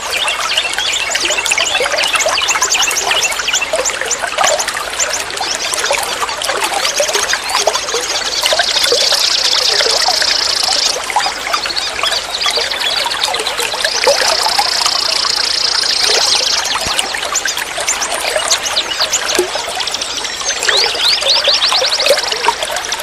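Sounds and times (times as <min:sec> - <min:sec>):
water trickling and gurgling: 0:00.0 - 0:23.0.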